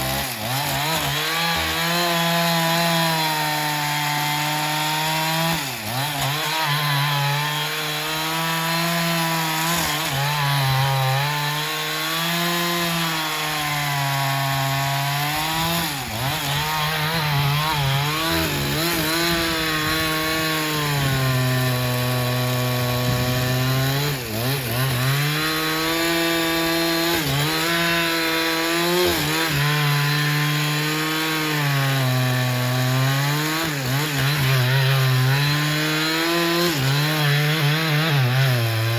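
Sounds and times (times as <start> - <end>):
saw cutting through log: 0.0 - 38.9.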